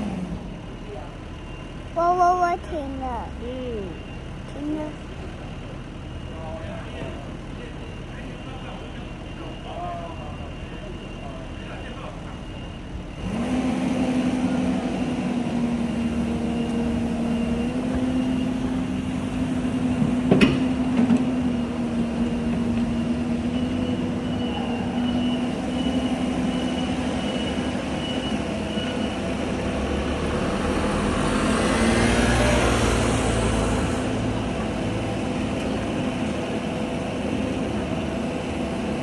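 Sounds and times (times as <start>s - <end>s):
excavator diesel engine drone: 0.0s - 39.0s.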